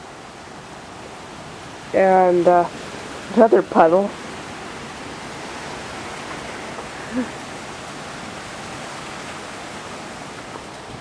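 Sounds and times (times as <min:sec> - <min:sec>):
strong storm wind rushing: 0:00.0 - 0:11.0.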